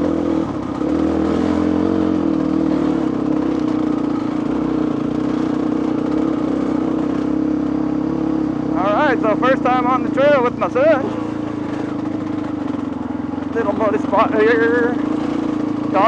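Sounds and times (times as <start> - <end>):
two-stroke dirt bike engine: 0.0 - 16.0.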